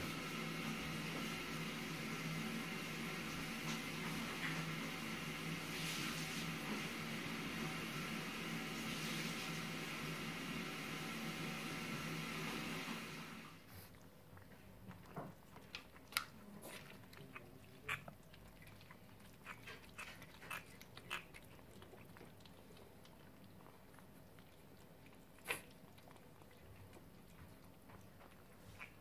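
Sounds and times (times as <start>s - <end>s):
kittens chewing and smacking: 0.0s - 29.0s.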